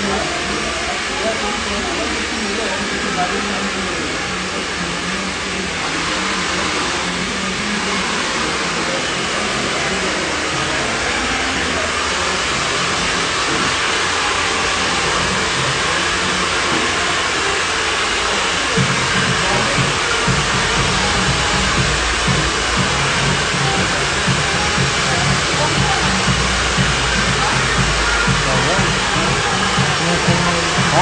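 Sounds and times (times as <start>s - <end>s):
electric blower hissing: 0.0s - 31.0s.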